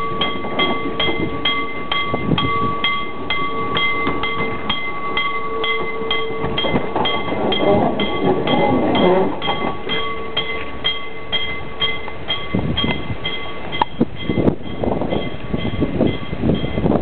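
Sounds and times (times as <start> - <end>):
bell ringing: 0.0 - 17.0
steady tone: 0.0 - 17.0.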